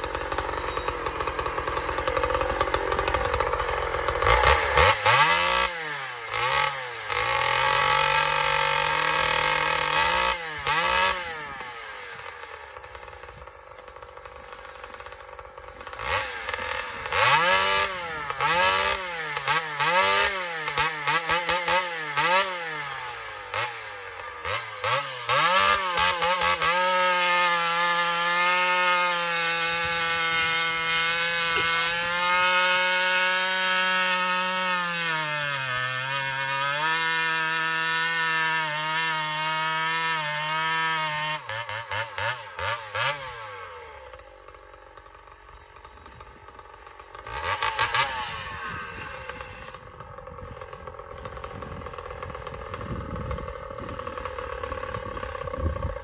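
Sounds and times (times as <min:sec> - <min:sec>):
chainsaw cutting log: 0:00.0 - 0:56.0
chainsaw revving: 0:00.0 - 0:56.0.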